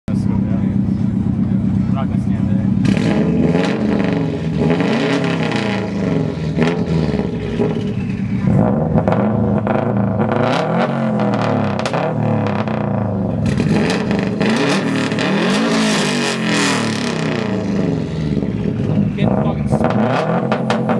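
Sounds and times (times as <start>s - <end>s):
engines revving hard: 0.1s - 20.9s.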